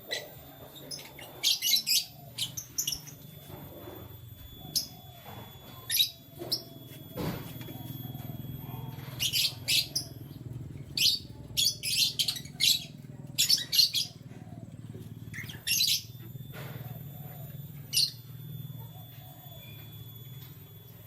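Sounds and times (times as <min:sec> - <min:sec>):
canaries chirping: 0:00.0 - 0:21.0
steady low hum: 0:00.0 - 0:21.0.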